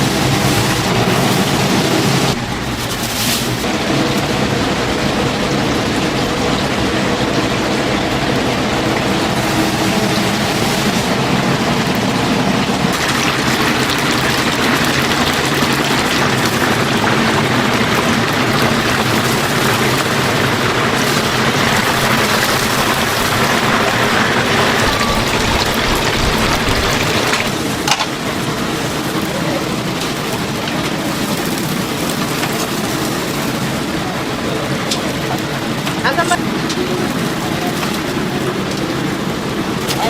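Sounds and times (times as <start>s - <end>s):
chicken sizzling in hot oil: 0.0s - 40.0s.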